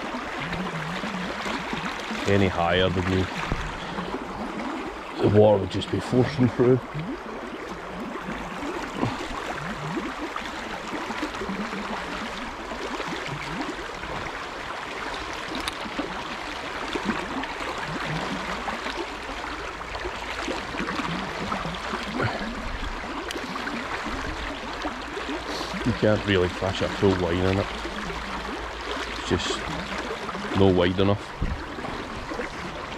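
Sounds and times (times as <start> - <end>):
river water rushing: 0.0 - 32.9.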